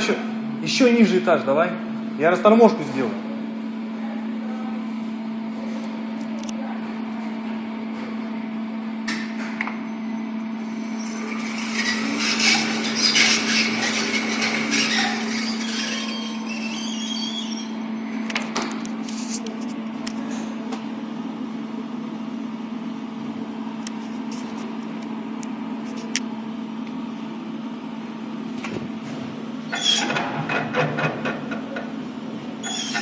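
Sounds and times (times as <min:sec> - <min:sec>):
elevator drive unit humming: 0:00.0 - 0:33.0.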